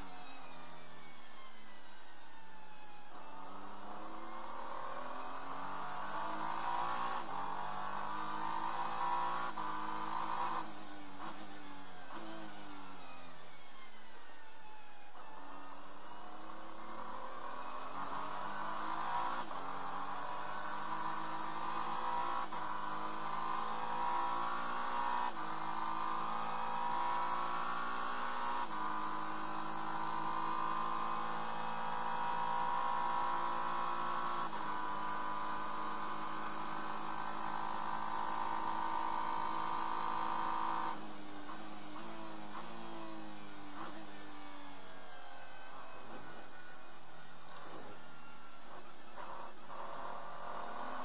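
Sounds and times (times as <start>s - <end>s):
race car engine accelerating: 0.0s - 51.0s.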